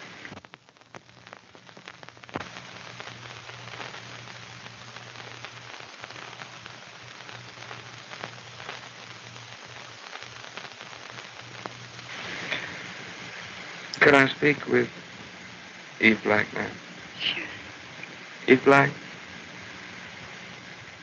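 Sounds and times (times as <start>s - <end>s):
film soundtrack hiss and crackle: 0.0s - 21.0s.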